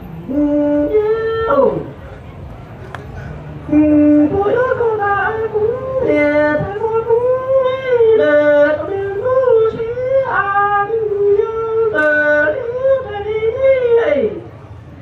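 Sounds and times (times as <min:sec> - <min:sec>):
man singing into a microphone: 0:00.3 - 0:02.0, 0:03.6 - 0:14.5.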